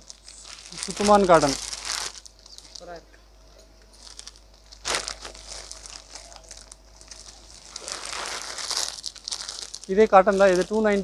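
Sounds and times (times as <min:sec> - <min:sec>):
plastic wrapping crinkling: 0:00.0 - 0:03.0, 0:03.8 - 0:11.0.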